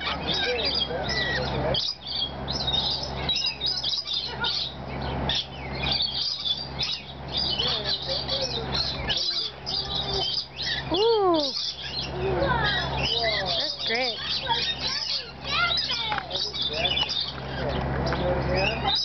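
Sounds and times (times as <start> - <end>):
loud rising and falling bird call: 0.0 - 17.8
lorikeets chirping and squawking: 0.0 - 19.0.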